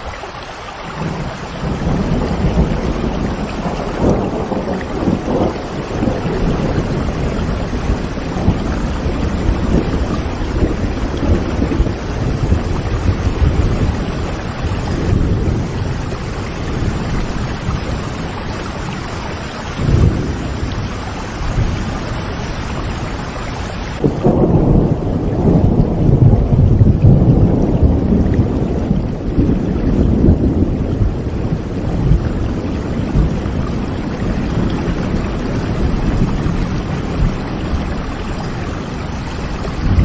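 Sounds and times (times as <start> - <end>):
heavy rain: 0.0 - 40.0
thunder rumbling: 0.9 - 40.0.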